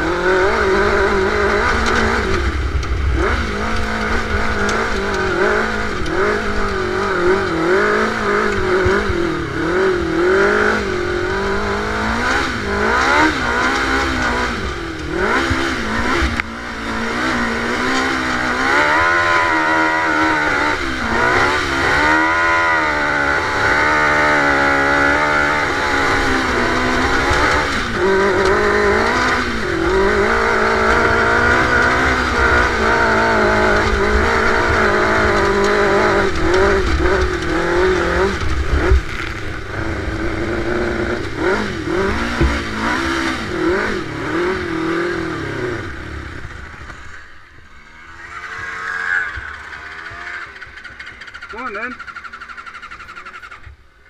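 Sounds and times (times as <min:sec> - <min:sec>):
dune buggy engine revving: 0:00.0 - 0:54.0.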